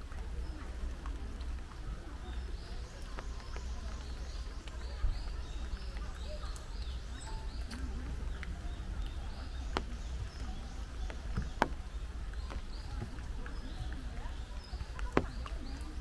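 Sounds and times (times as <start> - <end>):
rain dripping taps: 0.0 - 16.0
songbirds singing: 0.0 - 16.0.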